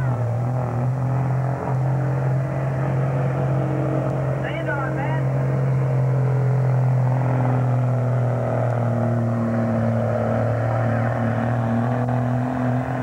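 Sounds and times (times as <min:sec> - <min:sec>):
pickup truck engine revving high: 0:00.0 - 0:13.0.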